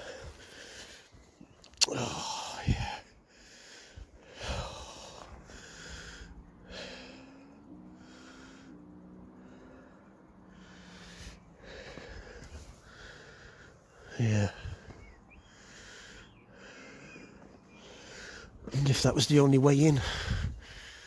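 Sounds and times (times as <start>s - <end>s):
man breathing heavily: 0.0s - 21.0s.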